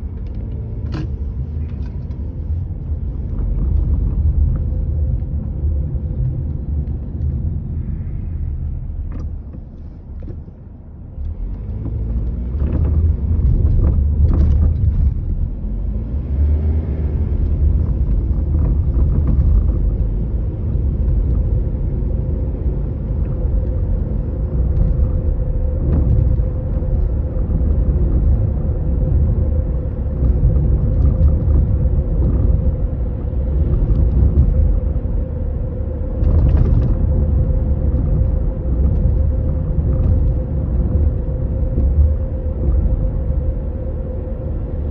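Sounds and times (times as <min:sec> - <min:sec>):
vehicle engine low rumble: 0:00.0 - 0:44.9.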